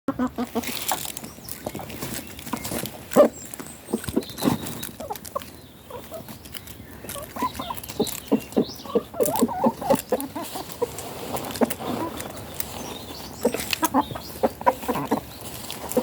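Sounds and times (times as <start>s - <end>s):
chickens clucking: 0.1s - 16.0s.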